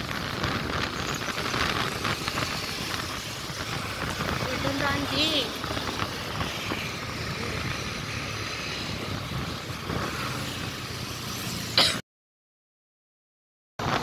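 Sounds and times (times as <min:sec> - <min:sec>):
motorcycle engine: 0:00.0 - 0:12.0
road and wind noise: 0:00.0 - 0:12.0, 0:13.8 - 0:14.0.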